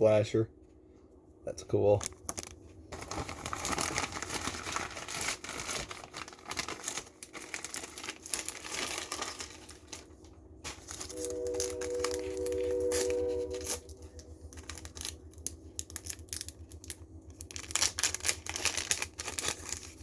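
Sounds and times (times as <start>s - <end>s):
packaging crinkling and rustling: 1.9s - 20.0s.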